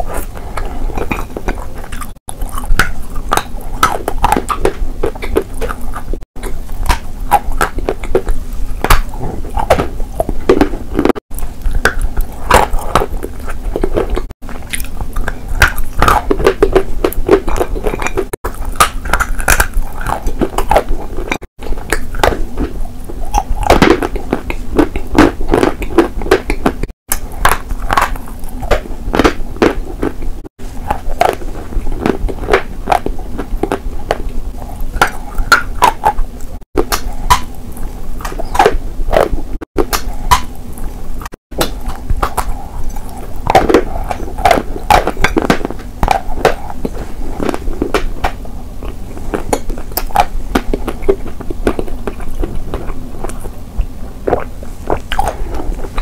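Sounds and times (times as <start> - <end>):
crisp chewing crunches: 0.0 - 56.0
wet mouth sounds: 0.0 - 56.0.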